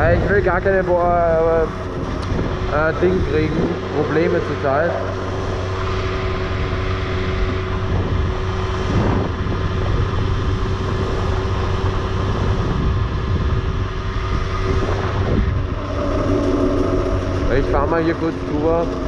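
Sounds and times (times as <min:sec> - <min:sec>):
two-stroke moped engine: 0:00.0 - 0:19.0
wind noise on microphone: 0:00.0 - 0:19.0.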